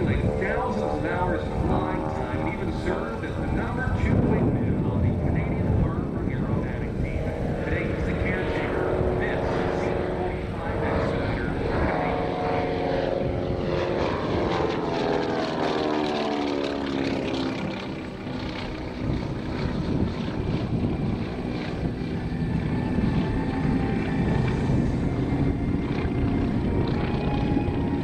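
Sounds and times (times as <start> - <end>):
propeller plane passing by: 0.0 - 28.0.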